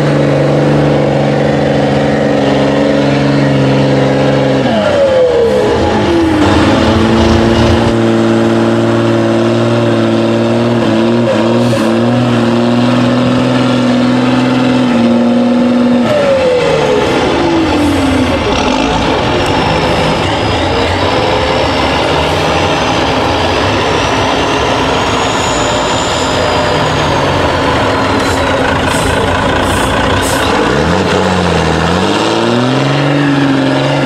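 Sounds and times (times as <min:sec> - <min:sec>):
truck diesel engine revving: 0:00.0 - 0:34.0.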